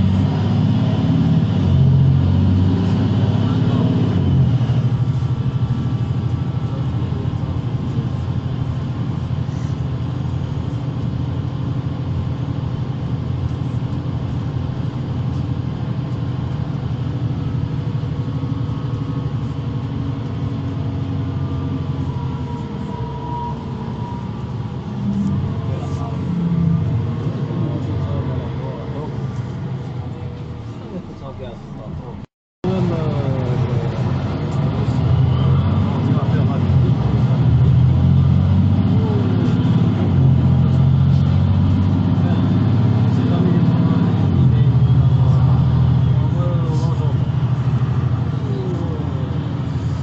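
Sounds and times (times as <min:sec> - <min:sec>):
bus engine droning: 0:00.0 - 0:50.0.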